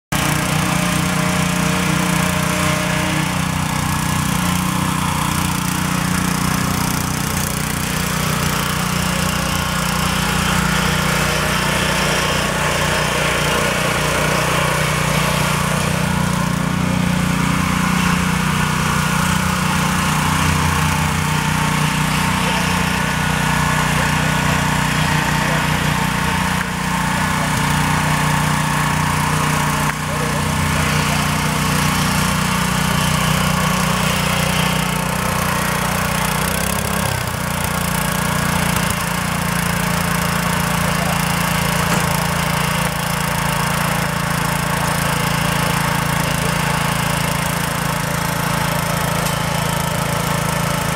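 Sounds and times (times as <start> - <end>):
small gasoline engine running: 0.1 - 50.9.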